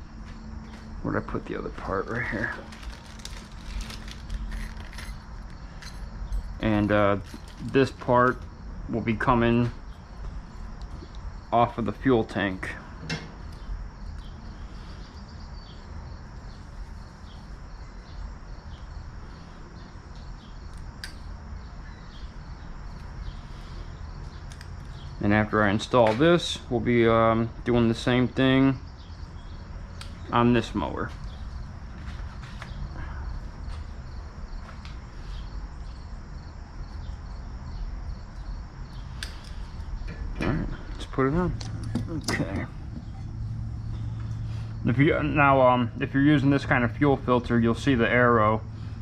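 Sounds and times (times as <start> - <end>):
background hiss and rumble: 0.0 - 49.0
crickets chirping: 0.0 - 49.0.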